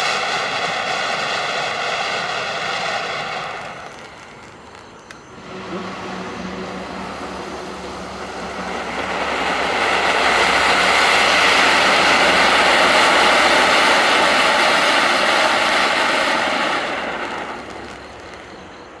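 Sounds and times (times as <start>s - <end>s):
firework fountains hissing: 0.0s - 19.0s.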